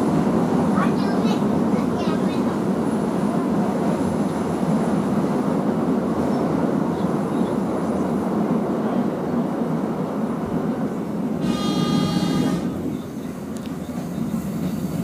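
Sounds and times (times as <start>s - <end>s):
passenger train running on track: 0.0s - 15.0s.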